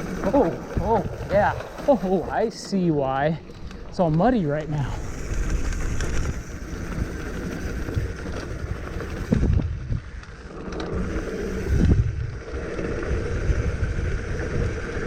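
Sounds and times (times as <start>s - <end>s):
wind on microphone: 0.0s - 4.1s, 4.7s - 15.0s
bike thudding over bumps: 0.0s - 15.0s
bike tyre and frame rumble: 0.0s - 15.0s.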